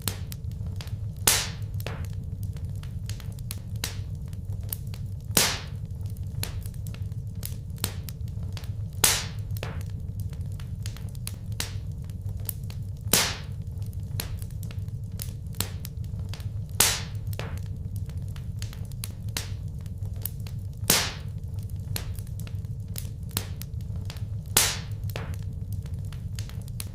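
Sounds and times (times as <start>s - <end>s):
loud fire pops: 0.0s - 26.9s
steady low rumble: 0.0s - 26.9s
wood fire crackling: 0.0s - 26.9s.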